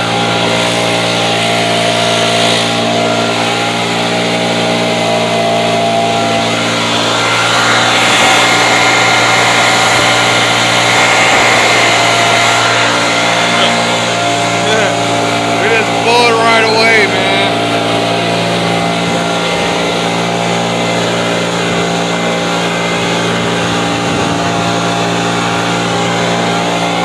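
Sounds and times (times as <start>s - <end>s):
leaf blower running: 0.0s - 27.0s.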